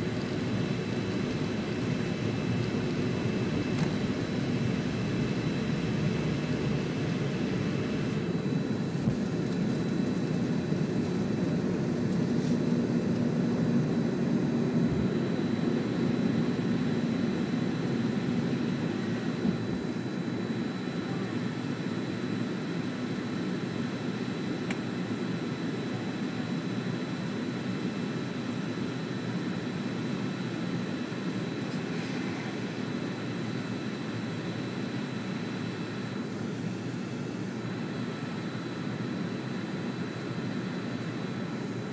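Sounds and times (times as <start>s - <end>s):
jet engine drone in cabin: 0.0s - 41.9s.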